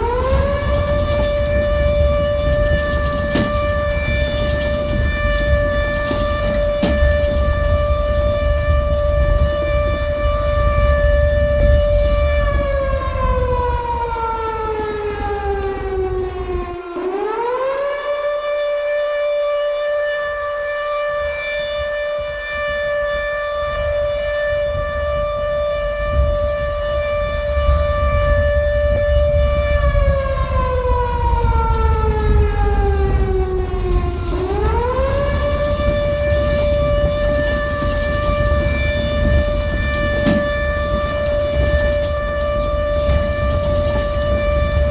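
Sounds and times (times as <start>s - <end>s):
wailing alarm siren: 0.0s - 44.9s.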